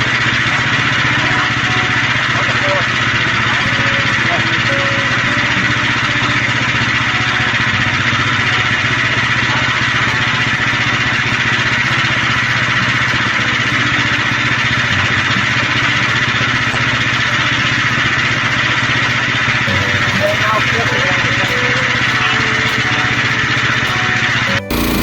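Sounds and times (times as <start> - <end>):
sawmill engine running: 0.0 - 25.0.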